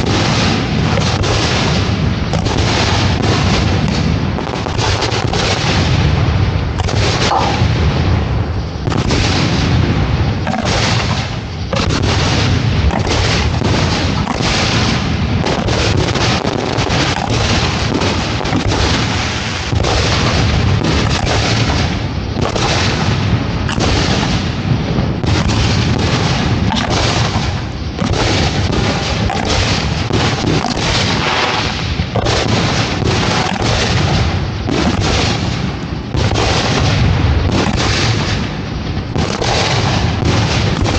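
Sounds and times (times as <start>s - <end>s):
fireworks launching and bursting: 0.0s - 40.9s.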